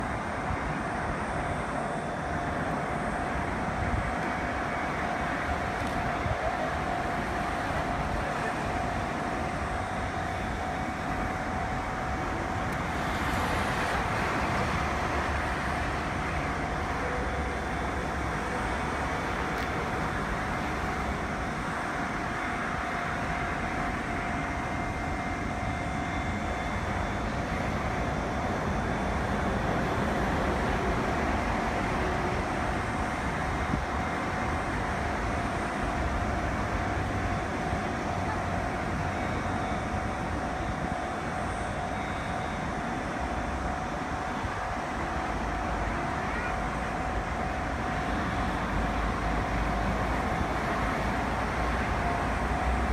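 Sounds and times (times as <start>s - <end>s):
road traffic noise: 0.0s - 52.9s
crossing warning bell: 2.6s - 52.9s.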